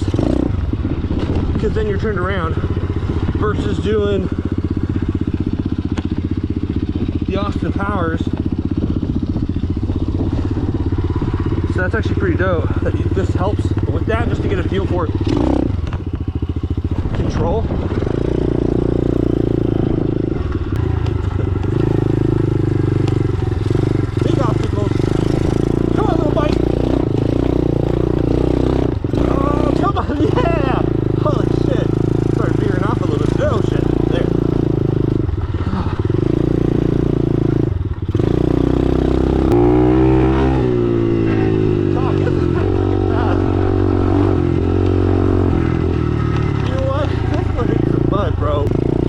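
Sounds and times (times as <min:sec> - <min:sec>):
dirt bike engine running: 0:00.0 - 0:49.0.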